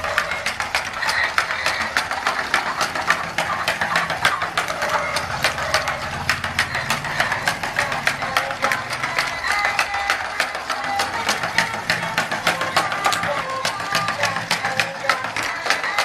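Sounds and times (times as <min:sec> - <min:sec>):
plastic legs clicking: 0:00.0 - 0:16.0
toy motor and gears humming: 0:00.0 - 0:16.0.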